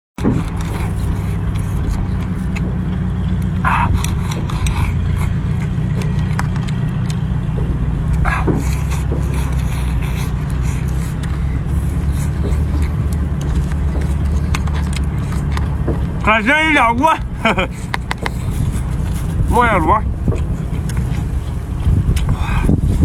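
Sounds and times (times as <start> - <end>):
low mechanical rumble: 0.2 - 23.0.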